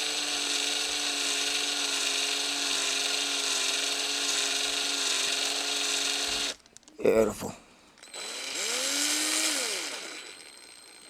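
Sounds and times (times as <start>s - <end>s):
cordless drill motor whine: 0.0s - 6.7s, 7.9s - 11.0s.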